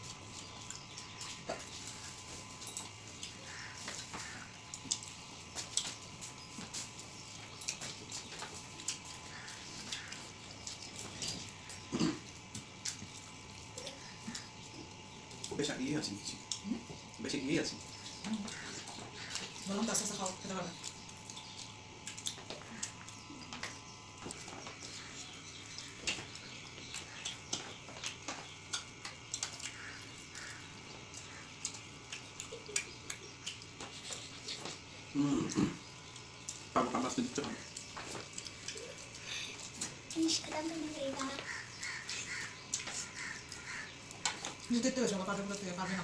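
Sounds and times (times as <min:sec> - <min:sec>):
wet chewing: 0:00.0 - 0:46.0.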